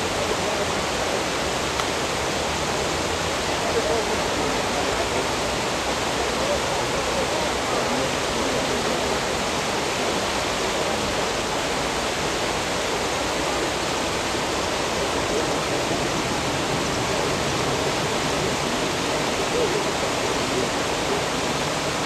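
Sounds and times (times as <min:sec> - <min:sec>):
turbulent water rushing: 0:00.0 - 0:22.0.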